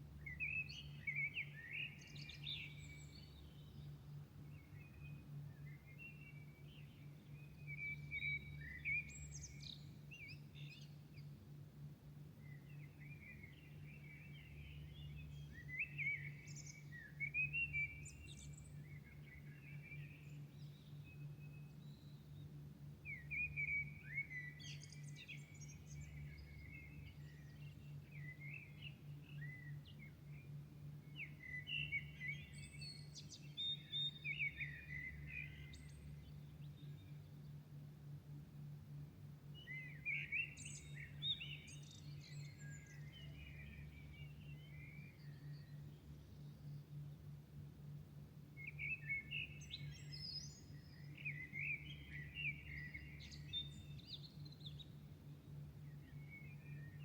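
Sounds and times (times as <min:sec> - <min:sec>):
songbirds twittering: 0:00.2 - 0:11.5, 0:12.3 - 0:38.2, 0:38.8 - 0:57.0.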